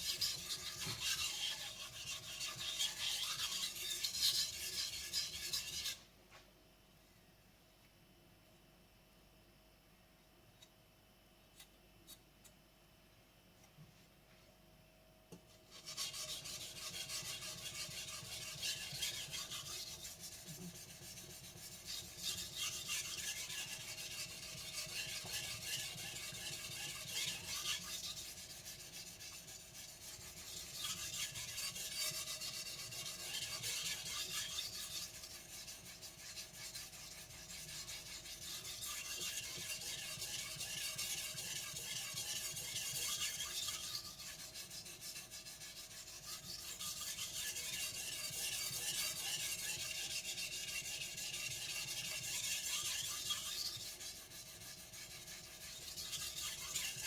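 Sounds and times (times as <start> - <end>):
knife scraping on whetstone: 0.0 - 6.0, 15.7 - 57.0.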